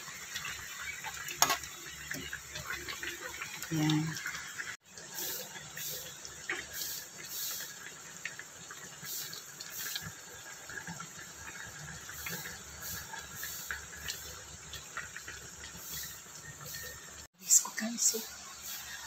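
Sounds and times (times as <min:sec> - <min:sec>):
pot boiling with bubbling pops: 0:00.0 - 0:19.0.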